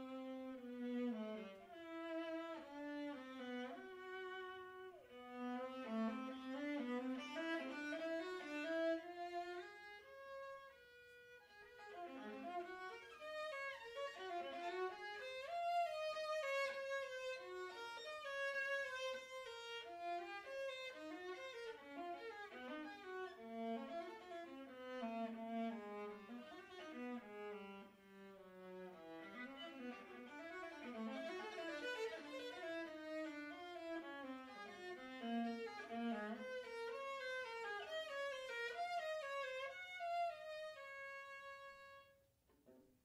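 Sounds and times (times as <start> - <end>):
solo viola playing slowly: 0.0 - 42.3.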